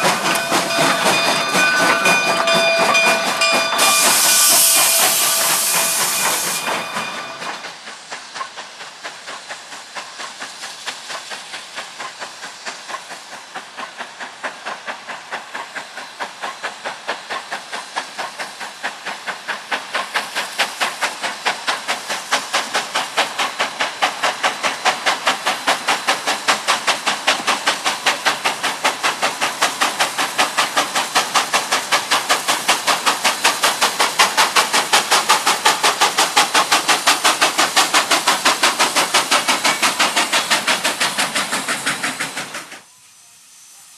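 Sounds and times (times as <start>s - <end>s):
steam hissing: 0.0s - 43.9s
steam locomotive chuffing: 0.0s - 43.9s.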